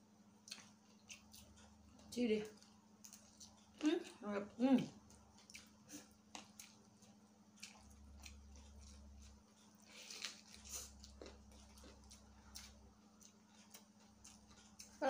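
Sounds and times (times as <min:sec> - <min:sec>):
people chewing: 0:00.3 - 0:15.0.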